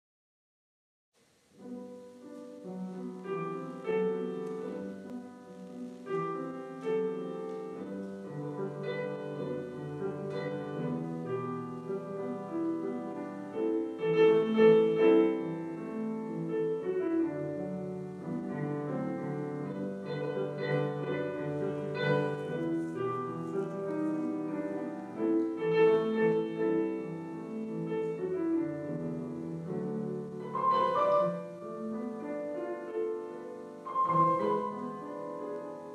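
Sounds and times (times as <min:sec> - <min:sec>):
piano music: 0:01.4 - 0:35.9.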